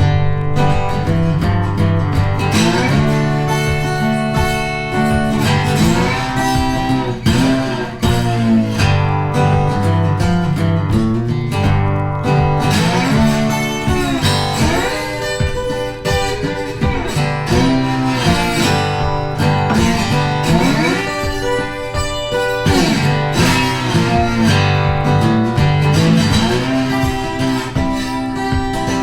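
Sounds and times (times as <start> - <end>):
guitar background music: 0.0 - 29.0.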